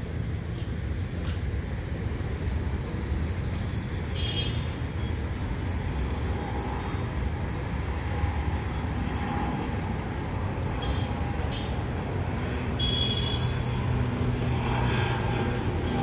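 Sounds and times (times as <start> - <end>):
aircraft engines rumbling: 0.0 - 16.0.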